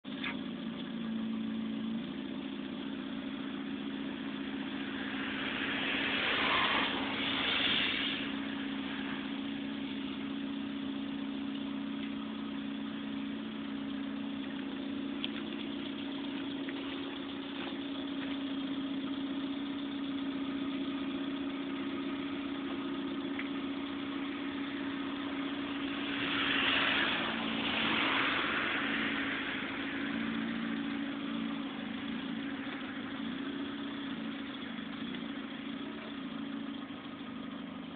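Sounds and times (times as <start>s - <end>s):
car engine idling: 0.0s - 37.9s
car engine revving: 0.0s - 37.9s.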